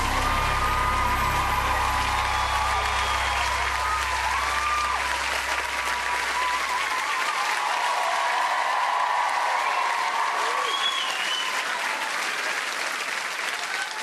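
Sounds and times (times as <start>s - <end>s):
cheers and shouts: 0.0s - 12.6s, 13.4s - 14.0s
audience applauding: 0.0s - 14.0s.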